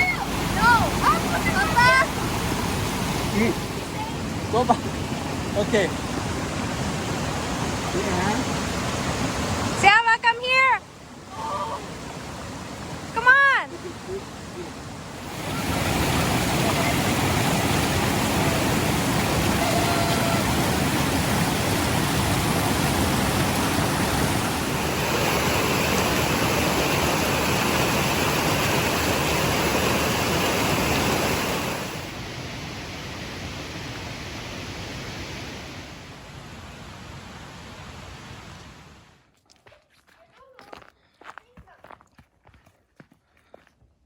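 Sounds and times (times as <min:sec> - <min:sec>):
water rushing: 0:00.0 - 0:39.2.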